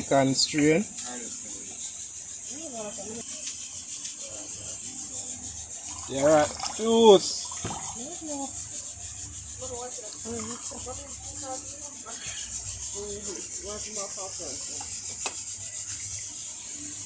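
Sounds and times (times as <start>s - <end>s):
faint voices: 0.0s - 15.8s
pulp rubbed through a strainer: 0.0s - 17.0s.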